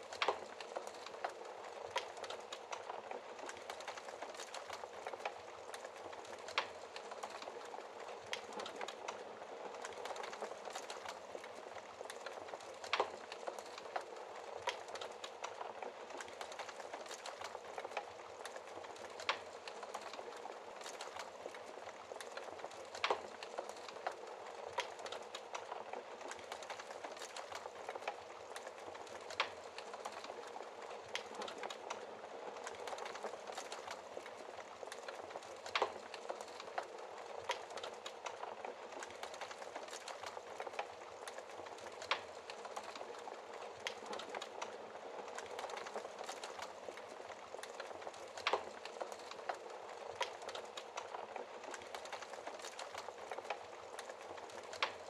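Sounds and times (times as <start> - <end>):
wood fire crackling: 0.0 - 55.0
fire pops: 0.1 - 32.0, 32.6 - 55.0.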